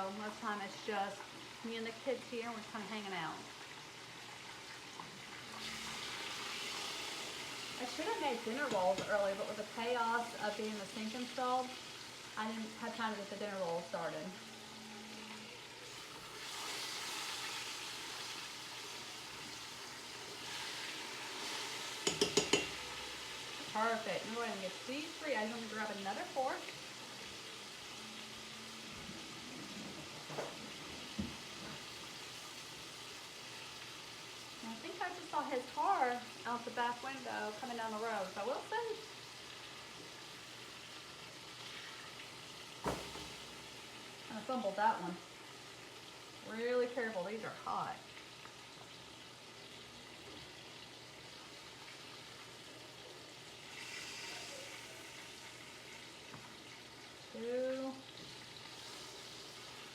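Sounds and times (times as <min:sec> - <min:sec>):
meat sizzling in a frying pan: 0:00.0 - 0:59.9.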